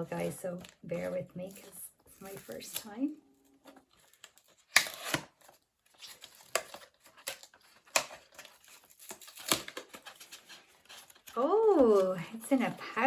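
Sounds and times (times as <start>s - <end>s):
cardboard packaging tearing: 0.5s - 12.8s.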